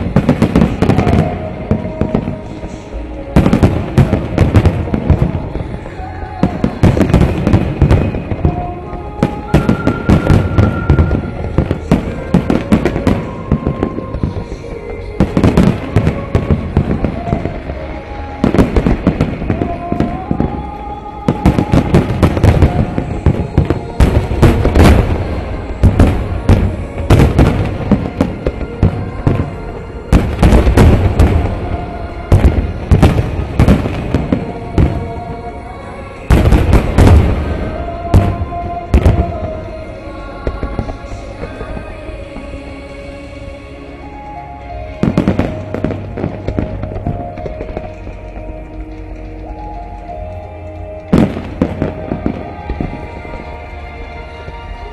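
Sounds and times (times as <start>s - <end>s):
fireworks bursting: 0.0s - 43.4s, 44.0s - 54.9s
music: 0.0s - 54.9s.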